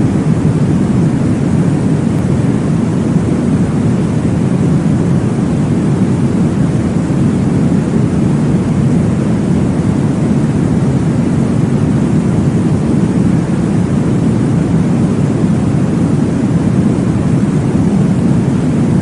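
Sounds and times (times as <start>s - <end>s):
low whooshing womb sound: 0.0s - 19.0s.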